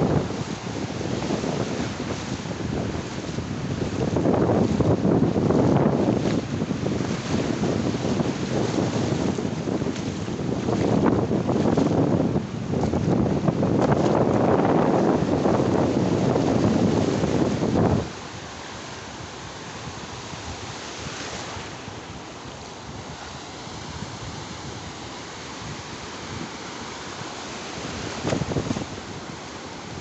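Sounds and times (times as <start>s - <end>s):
waves breaking on beach: 0.0s - 30.0s
wind buffeting microphone: 0.0s - 30.0s.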